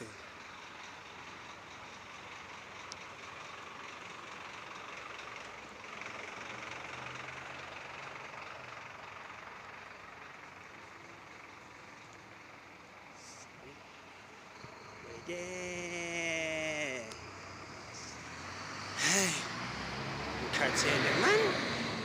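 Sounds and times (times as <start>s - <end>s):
roadside traffic noise: 0.0s - 22.0s
vehicle engine passing: 2.3s - 22.0s.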